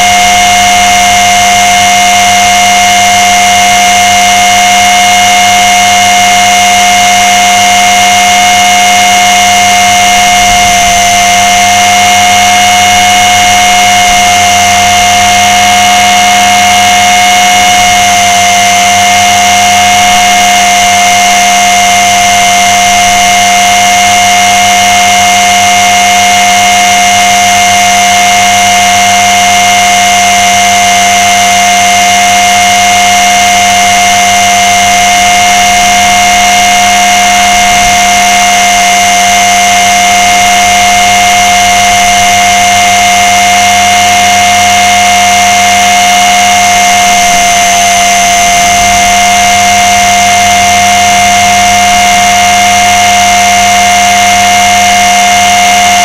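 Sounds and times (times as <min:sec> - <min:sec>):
rc helicopter rotor whine: 0:00.0 - 0:56.0.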